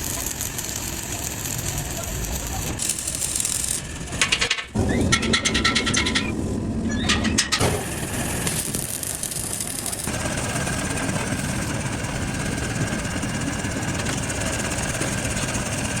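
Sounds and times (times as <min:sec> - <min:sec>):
workshop machinery running: 0:00.0 - 0:16.0.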